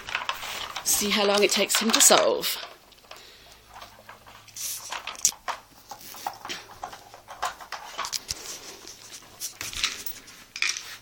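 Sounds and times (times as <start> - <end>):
plastic puzzle toy clicking and rattling: 0.0 - 11.0.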